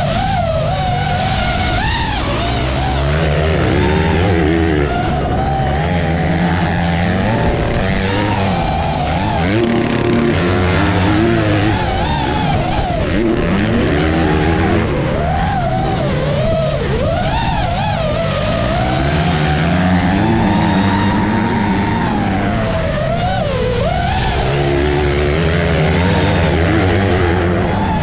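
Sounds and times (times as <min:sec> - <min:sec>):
motors revving: 0:00.0 - 0:28.0.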